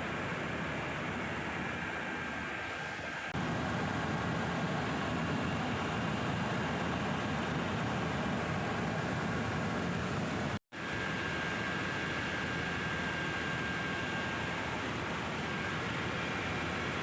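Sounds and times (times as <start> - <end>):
helicopter cabin engine and rotor noise: 0.0 - 17.0.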